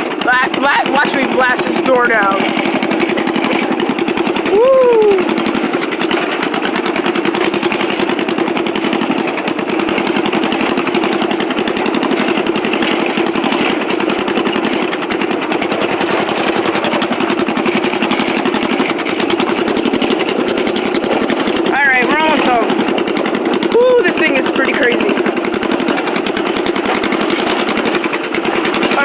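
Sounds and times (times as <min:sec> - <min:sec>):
lawn mower engine running loud: 0:00.0 - 0:29.0.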